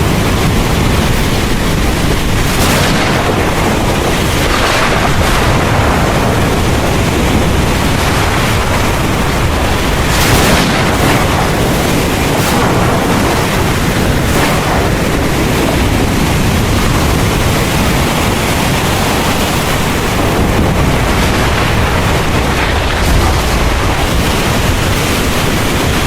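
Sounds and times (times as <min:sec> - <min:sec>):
deep rumble of thunder: 0:00.0 - 0:26.0
heavy rain pouring: 0:00.0 - 0:26.0.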